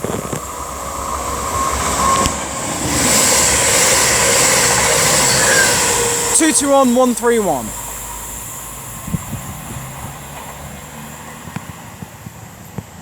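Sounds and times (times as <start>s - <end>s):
train engines and wheels passing: 0.0s - 13.0s.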